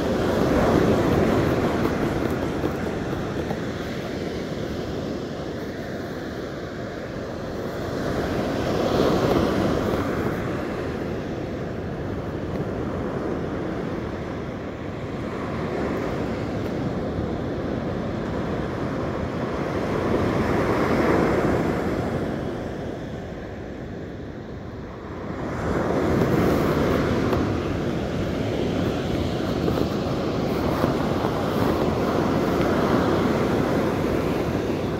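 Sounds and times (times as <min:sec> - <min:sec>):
surf washing up a beach: 0:00.0 - 0:34.9
wind on microphone: 0:00.0 - 0:34.9.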